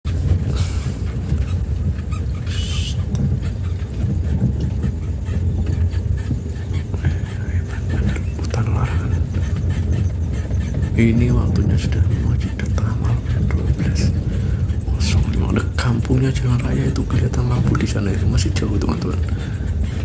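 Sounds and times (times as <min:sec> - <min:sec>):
vehicle rumbling over rough road: 0:00.0 - 0:20.0.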